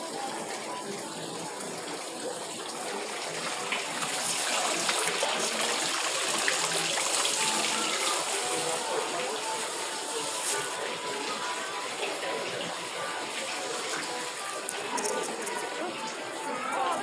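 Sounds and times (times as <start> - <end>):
fountain water splashing into basin: 0.0 - 17.0.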